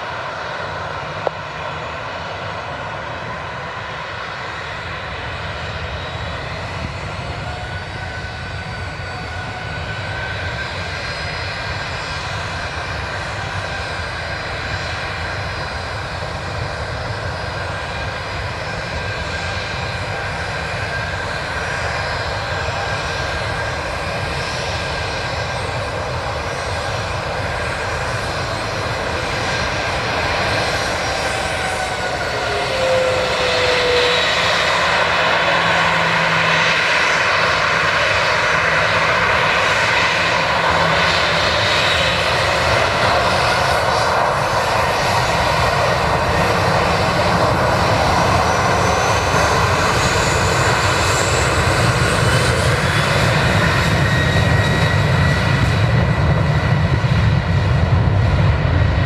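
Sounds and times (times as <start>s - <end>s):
higher jet whine: 0.0s - 59.0s
jet engine whine and rush: 0.0s - 59.0s.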